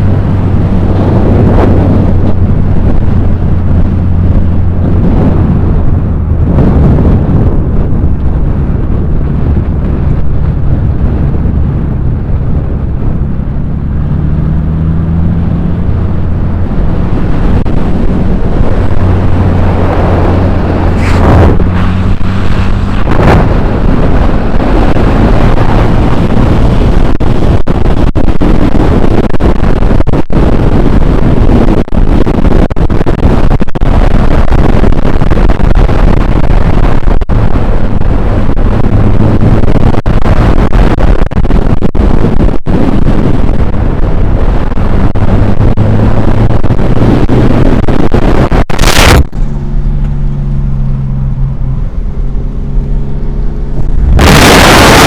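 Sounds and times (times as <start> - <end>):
car engine drone: 0.0 - 55.0
road rumble: 0.0 - 55.0
wind noise: 0.0 - 55.0.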